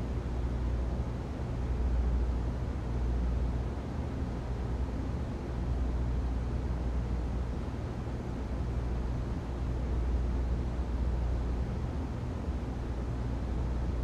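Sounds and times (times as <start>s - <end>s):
ventilation system hiss and rumble: 0.0s - 14.0s.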